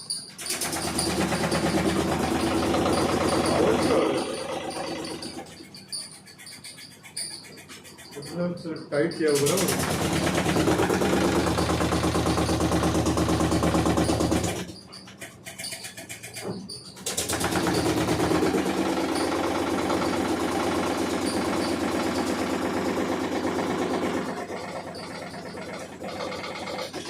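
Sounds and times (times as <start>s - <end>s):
washing machine gearbox grinding: 0.0s - 27.0s.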